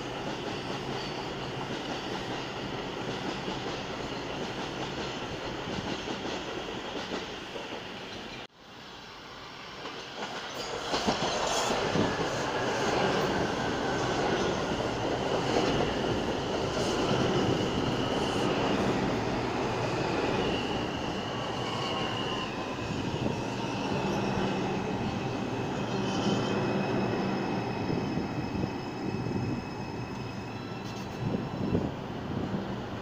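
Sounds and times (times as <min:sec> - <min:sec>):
steel wheels rumbling on rail: 0:00.0 - 0:33.0
train propulsion whine: 0:00.0 - 0:33.0.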